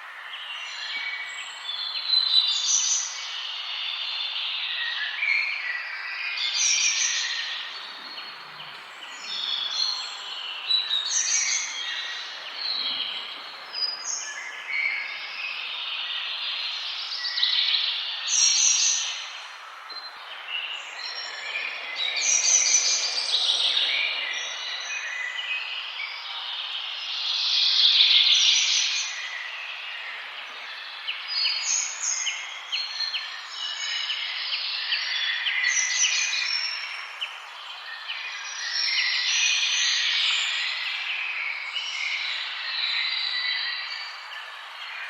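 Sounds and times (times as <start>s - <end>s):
songbirds singing and chirping: 0.0s - 45.0s
steady background hiss: 0.0s - 45.0s.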